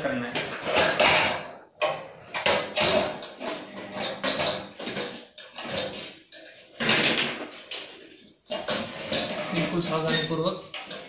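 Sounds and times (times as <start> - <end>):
metal parts rattling and scraping: 0.4 - 11.0.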